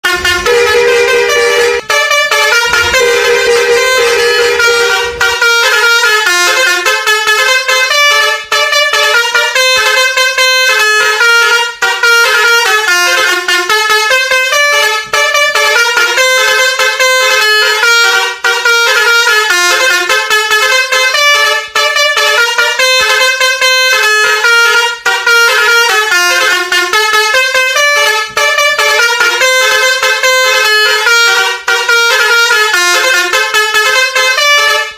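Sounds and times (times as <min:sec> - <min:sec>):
musical vehicle horn melody: 0:00.0 - 0:34.9.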